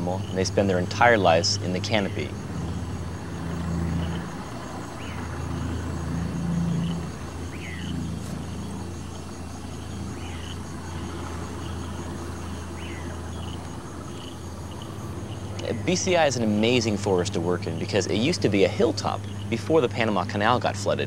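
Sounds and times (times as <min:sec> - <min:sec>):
boat motor humming: 0:00.0 - 0:21.0
insects trilling: 0:00.0 - 0:21.0.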